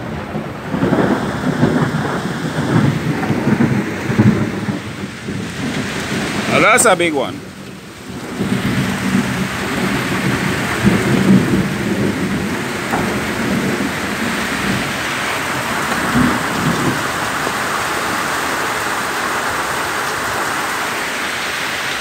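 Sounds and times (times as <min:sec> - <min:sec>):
rumble of thunder: 0:00.0 - 0:06.8, 0:07.4 - 0:18.3
heavy rain: 0:00.0 - 0:22.0.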